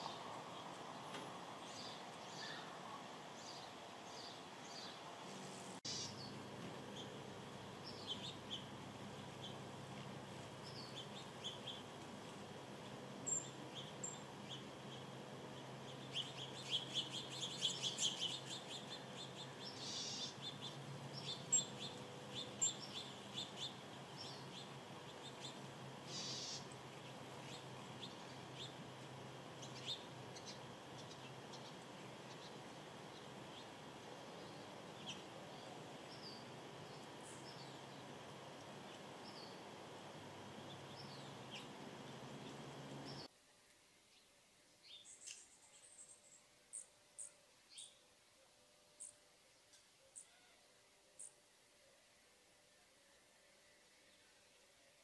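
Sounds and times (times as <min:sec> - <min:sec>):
small birds chirping: 0:00.0 - 0:43.3, 0:44.1 - 0:48.1, 0:49.0 - 0:50.5, 0:51.2 - 0:51.5
faint outdoor background: 0:00.0 - 0:55.0.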